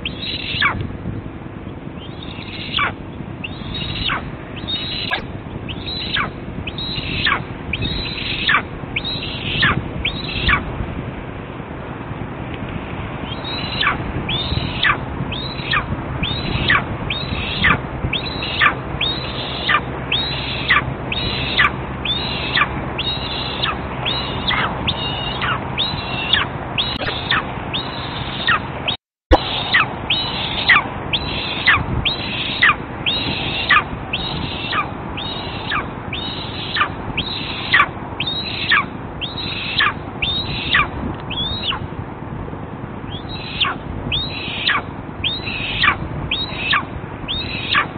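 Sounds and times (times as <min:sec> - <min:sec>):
young eagle begging calls: 0:00.0 - 0:00.8, 0:02.0 - 0:10.7, 0:13.2 - 0:41.9, 0:43.1 - 0:47.9.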